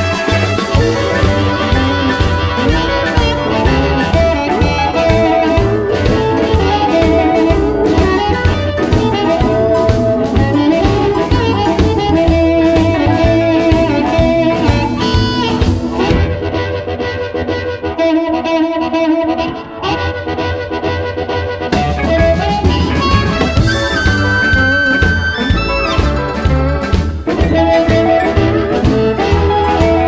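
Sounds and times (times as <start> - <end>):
drum kit steady beat: 0.0 - 17.5, 21.6 - 30.0
electric guitar playing: 0.0 - 30.0.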